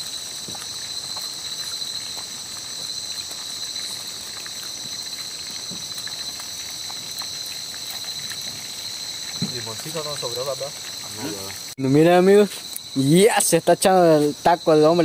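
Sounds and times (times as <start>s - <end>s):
night insects shrilling: 0.0s - 15.0s.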